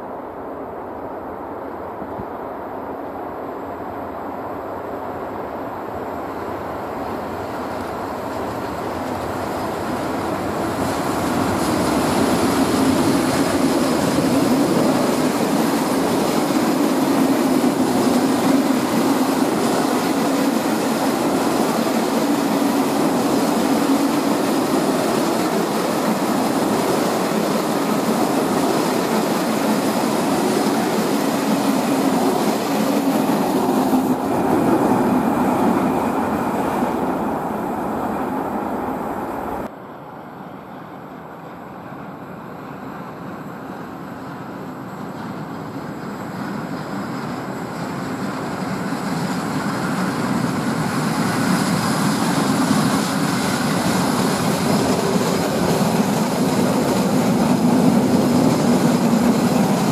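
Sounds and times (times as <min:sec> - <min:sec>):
train wheels rumbling on rails: 0:00.0 - 0:39.7, 0:40.3 - 0:59.9.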